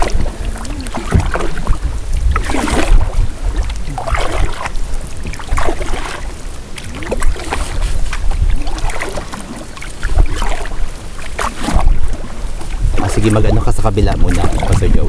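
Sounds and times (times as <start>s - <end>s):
paddle splashing in water: 0.0s - 15.0s
wind rumble on microphone: 0.0s - 15.0s.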